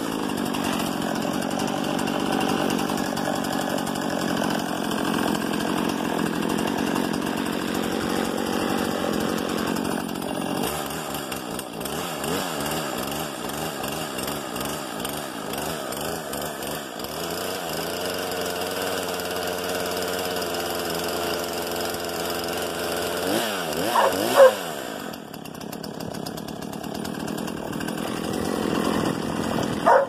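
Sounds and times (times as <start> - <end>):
chainsaw engine running: 0.0 - 30.0.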